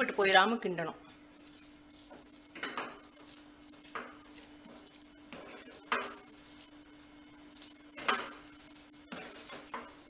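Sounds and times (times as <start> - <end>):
spatula scraping dough in a pan: 1.4 - 10.0.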